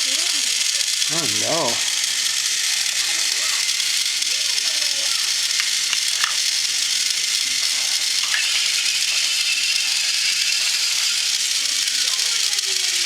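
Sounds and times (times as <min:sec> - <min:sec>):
toy train motors whirring: 0:00.0 - 0:13.0.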